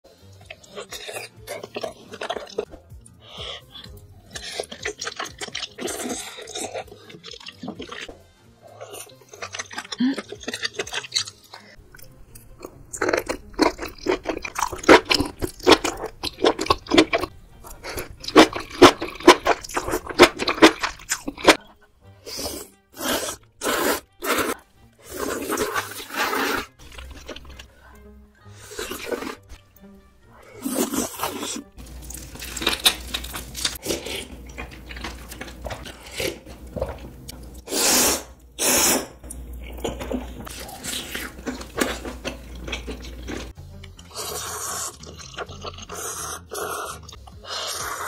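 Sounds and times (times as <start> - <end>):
faint background music: 0.1 - 48.0
wet chewing and crunching: 0.3 - 21.8, 22.4 - 27.8, 28.6 - 29.6, 30.5 - 48.0.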